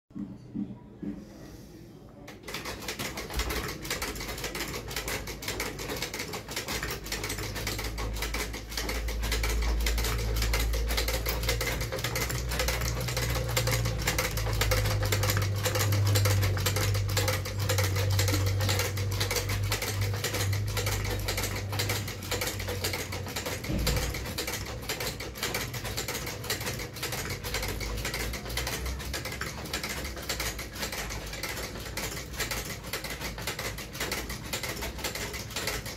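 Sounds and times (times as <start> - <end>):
sewing machine needle clatter: 2.3 - 35.9.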